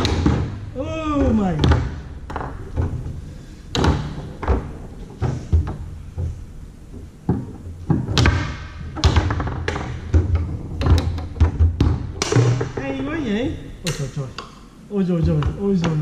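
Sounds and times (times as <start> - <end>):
foosball ball knocking: 0.0 - 14.7.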